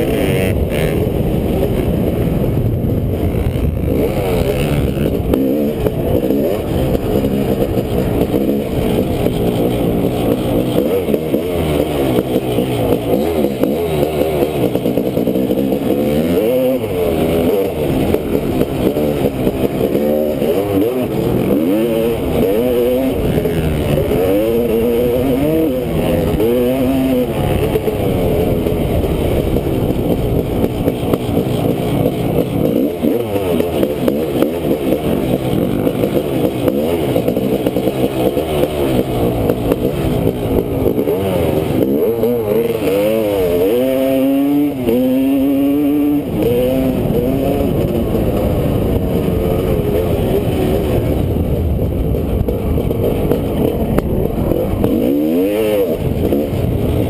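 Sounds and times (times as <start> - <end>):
dirt bike engine revving: 0.0 - 57.0
second dirt bike revving: 0.0 - 57.0.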